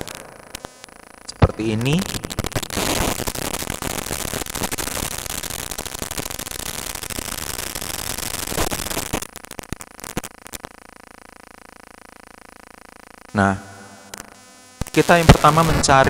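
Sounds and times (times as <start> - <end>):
loud static crackling: 0.0 - 16.0.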